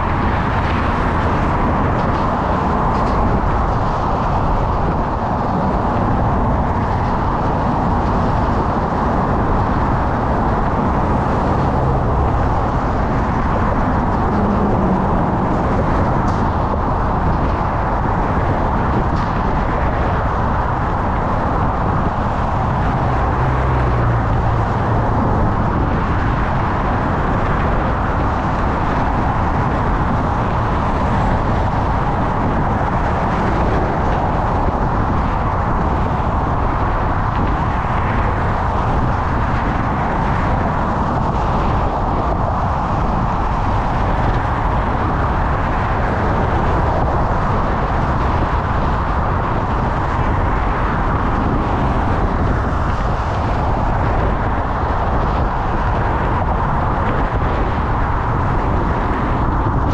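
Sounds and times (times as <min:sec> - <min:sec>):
passing motor traffic: 0:00.0 - 0:59.9
wind on microphone: 0:00.0 - 0:59.9.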